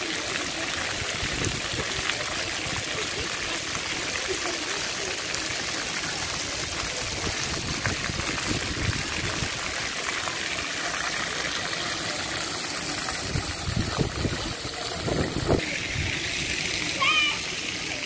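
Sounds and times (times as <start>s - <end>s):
running splashing water: 0.0s - 18.0s.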